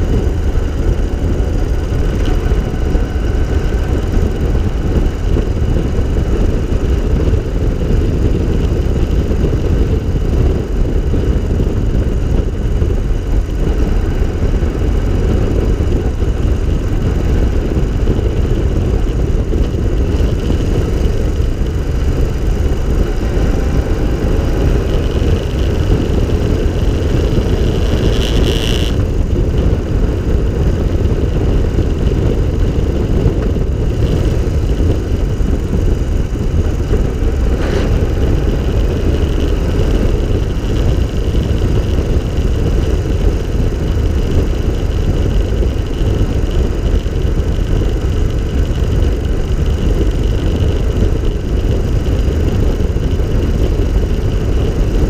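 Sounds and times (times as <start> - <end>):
engine running at cruise: 0.0 - 55.0
wind rush on microphone: 0.0 - 55.0.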